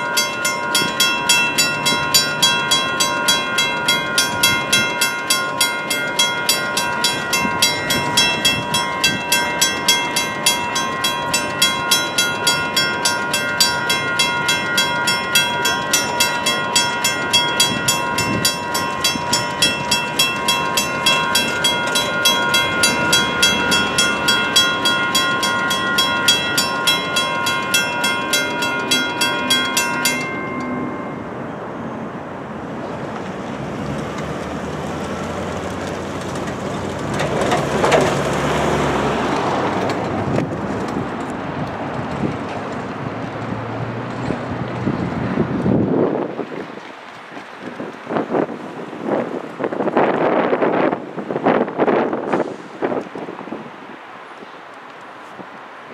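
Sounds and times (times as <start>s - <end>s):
railroad crossing bells ringing: 0.0s - 46.7s
outdoor noise: 0.0s - 55.9s.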